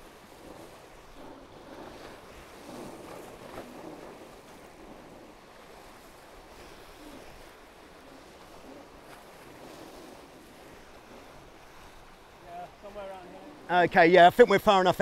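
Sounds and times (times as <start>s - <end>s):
wind on microphone: 0.0s - 12.5s
water rushing along hulls: 0.0s - 15.0s.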